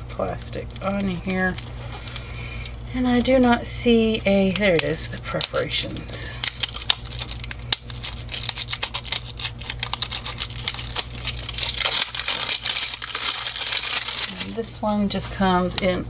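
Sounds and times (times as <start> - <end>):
plastic wrap crinkling: 0.3 - 15.5.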